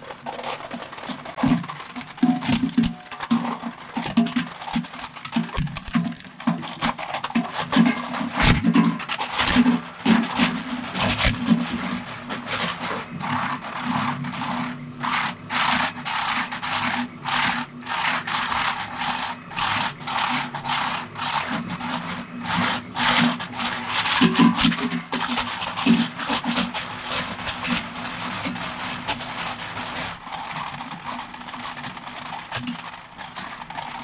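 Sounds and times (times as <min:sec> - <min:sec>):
plastic cracking and scraping: 0:00.0 - 0:34.0.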